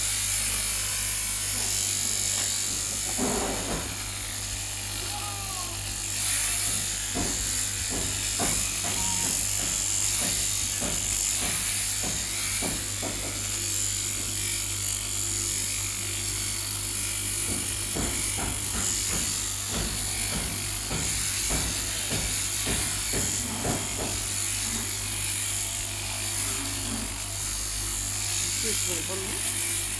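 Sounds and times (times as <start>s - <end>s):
electric shears buzzing: 0.0s - 29.9s.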